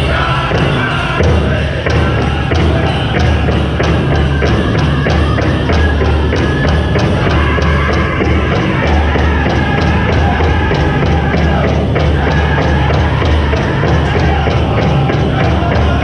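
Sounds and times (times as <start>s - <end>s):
large drum beating: 0.0s - 16.0s
voices singing in unison: 0.0s - 16.0s.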